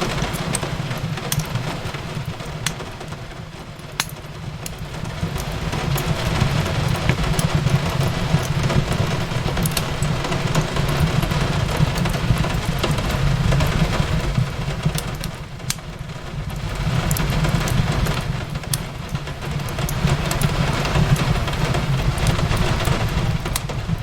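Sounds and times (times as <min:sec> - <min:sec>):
fireplace crackling and popping: 0:00.0 - 0:24.0
low fire rumble: 0:00.0 - 0:24.0
rain on a window: 0:00.0 - 0:24.0.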